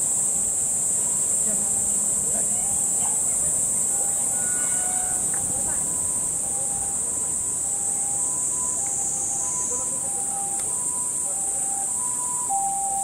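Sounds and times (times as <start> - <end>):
insects droning: 0.0 - 13.0
distant two-tone siren: 1.5 - 13.0.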